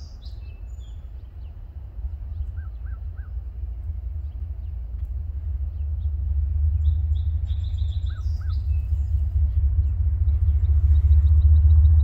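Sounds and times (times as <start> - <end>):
small birds chirping: 0.0 - 3.4, 4.1 - 12.0
distant freight train rumble: 0.0 - 12.0.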